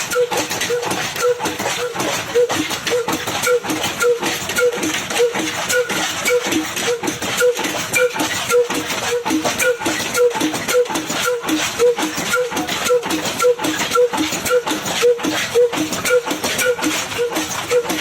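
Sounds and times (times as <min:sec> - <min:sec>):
mechanical clatter: 0:00.0 - 0:18.0.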